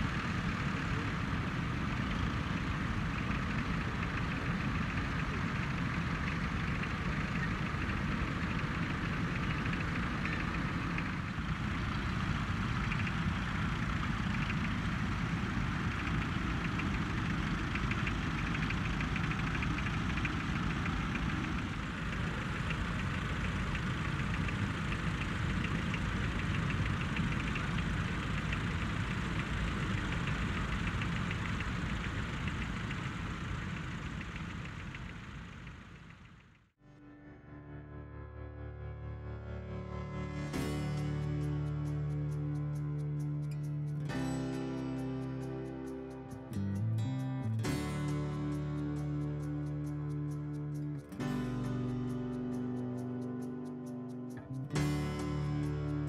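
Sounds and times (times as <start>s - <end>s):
tractor engines puttering: 0.0s - 36.7s, 40.5s - 56.0s.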